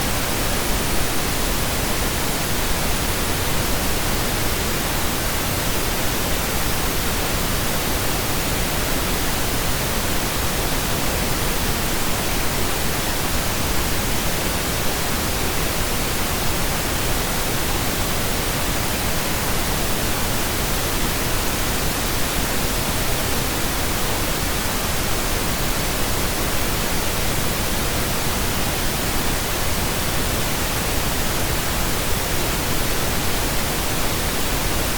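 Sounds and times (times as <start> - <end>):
pink noise hiss: 0.0 - 34.9.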